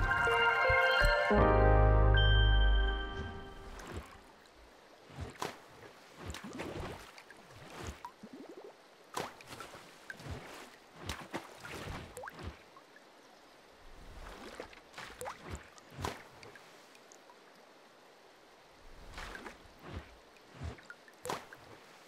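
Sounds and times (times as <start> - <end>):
water drips and splashes: 3.6 - 22.0.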